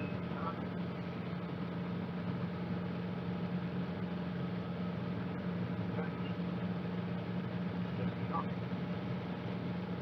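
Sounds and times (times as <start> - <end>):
helicopter engine and rotors: 0.0 - 10.0.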